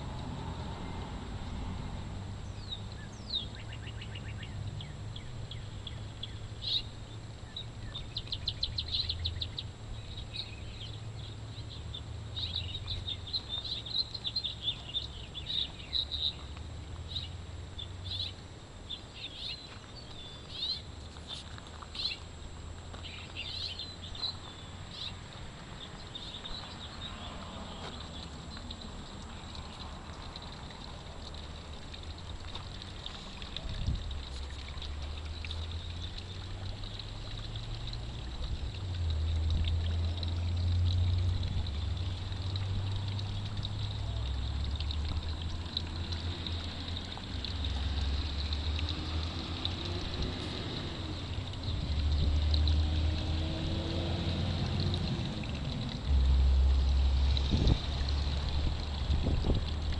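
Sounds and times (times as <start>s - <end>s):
low outdoor rumble: 0.0s - 59.9s
songbirds chirping: 2.4s - 53.1s.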